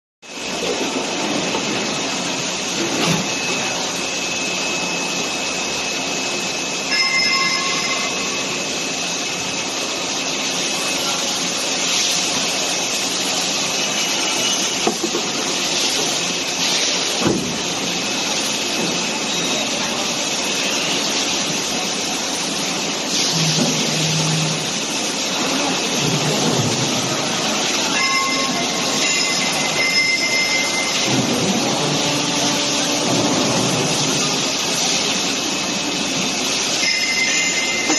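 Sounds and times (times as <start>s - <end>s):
high machine whines: 0.2s - 37.9s
machine hiss and hum: 0.2s - 37.9s.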